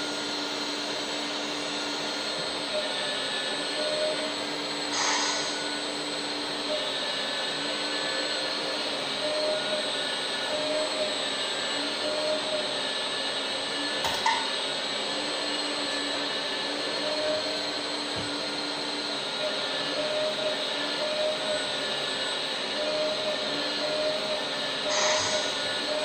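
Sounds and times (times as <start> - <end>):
hydraulic pump whirring: 0.0 - 26.0.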